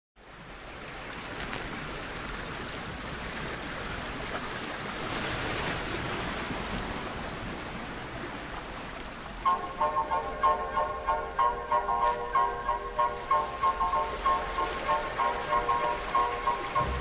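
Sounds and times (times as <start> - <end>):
surf washing on shingle beach: 0.4 - 17.0.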